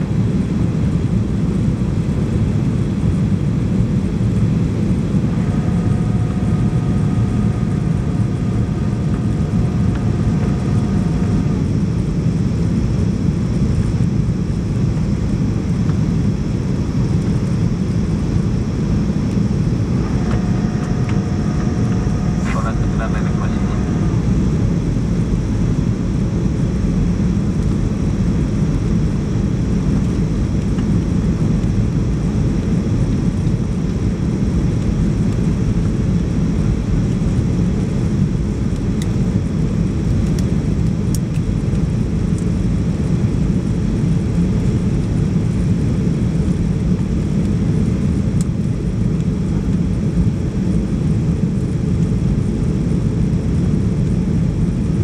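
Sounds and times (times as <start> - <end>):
airliner cabin low rumble: 0.0 - 55.0.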